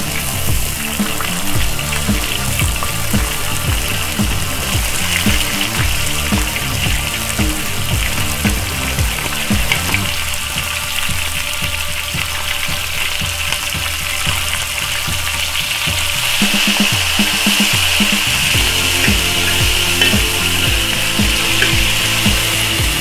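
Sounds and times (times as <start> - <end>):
background music with beat: 0.0 - 23.0
oil sizzling: 0.0 - 23.0.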